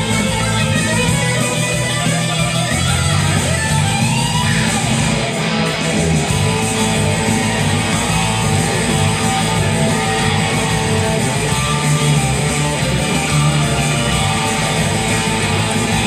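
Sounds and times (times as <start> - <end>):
bass line: 0.0 - 16.0
surf rock electric guitar: 0.0 - 16.0.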